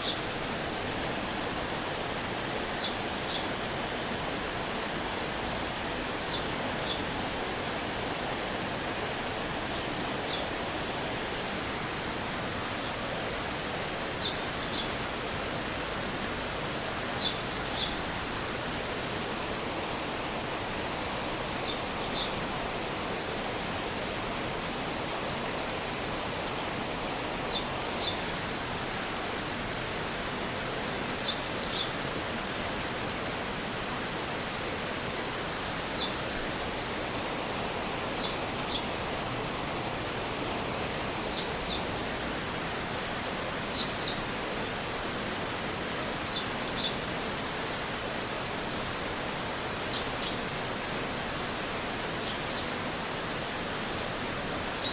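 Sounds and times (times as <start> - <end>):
stream water running: 0.0 - 54.9.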